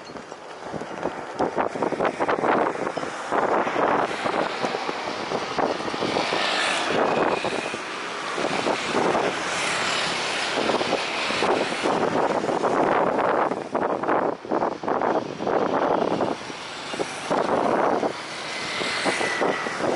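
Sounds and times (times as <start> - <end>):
jet engines passing: 0.0 - 19.9
wind buffeting microphone: 0.0 - 19.9.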